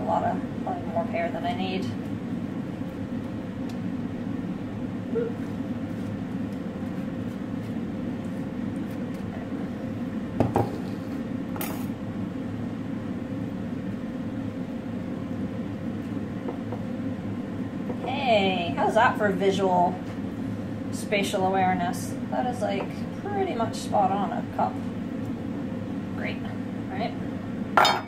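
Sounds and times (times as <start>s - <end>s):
steady low room hum: 0.0s - 28.0s.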